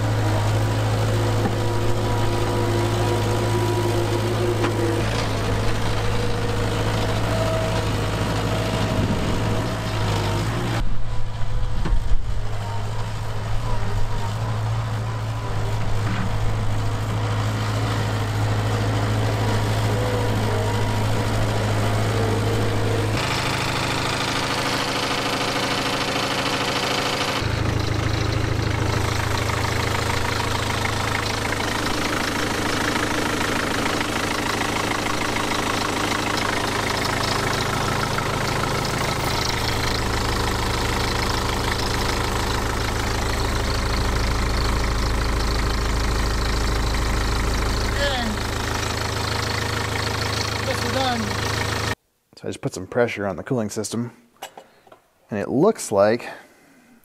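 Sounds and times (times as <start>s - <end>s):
skid steer engine running: 0.0s - 52.0s.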